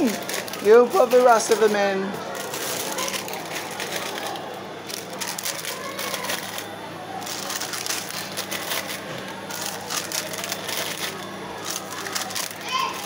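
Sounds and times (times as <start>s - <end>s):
crisp packets crinkling: 0.0s - 13.0s.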